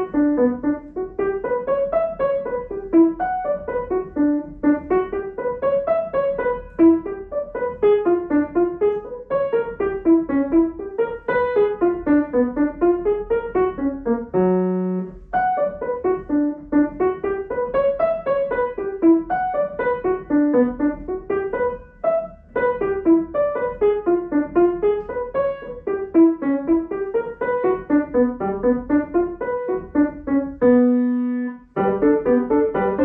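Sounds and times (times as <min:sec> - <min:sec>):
grand piano playing: 0:00.0 - 0:33.0.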